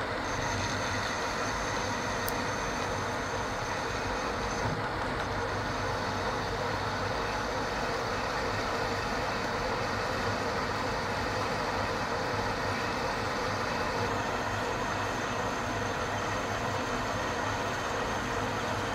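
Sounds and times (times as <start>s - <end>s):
metal lathe cutting: 0.0s - 18.9s.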